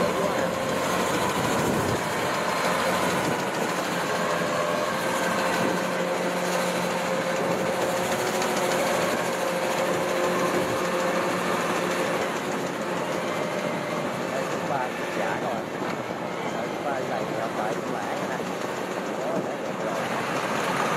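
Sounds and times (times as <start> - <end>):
combine harvester machine hum: 0.0 - 20.9.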